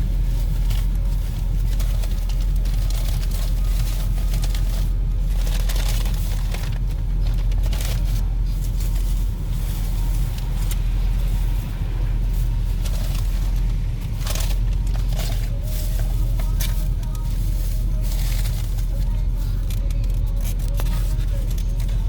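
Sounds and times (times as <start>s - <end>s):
car wash rumble: 0.0s - 22.0s.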